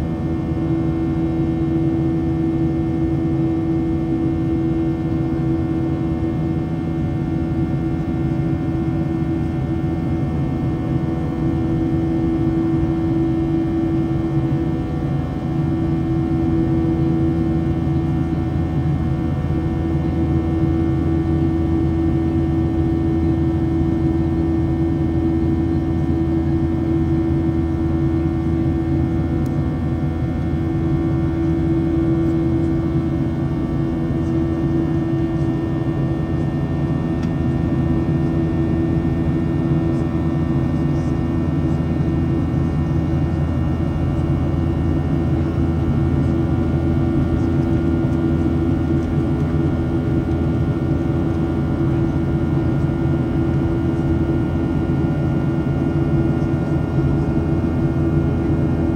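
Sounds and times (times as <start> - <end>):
jet engine drone in cabin: 0.0 - 58.9.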